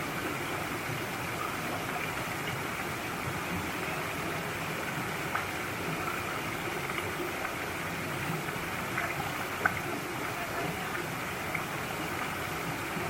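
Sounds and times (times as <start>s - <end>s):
stream flowing over rocks: 0.0s - 13.0s
small water splashes: 0.6s - 13.0s.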